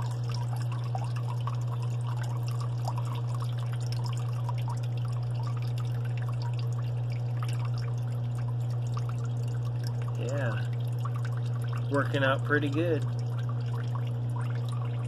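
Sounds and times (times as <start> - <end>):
dishwasher running hum: 0.0 - 15.0.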